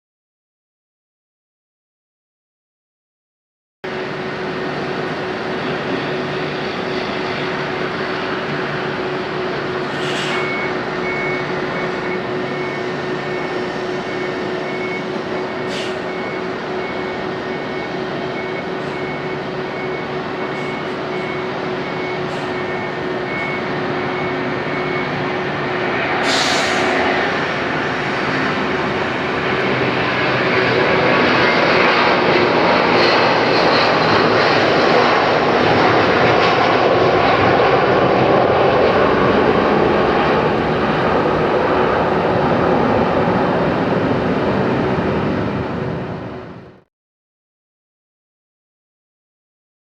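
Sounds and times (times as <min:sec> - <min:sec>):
jet engines at takeoff power: 0:03.8 - 0:46.9.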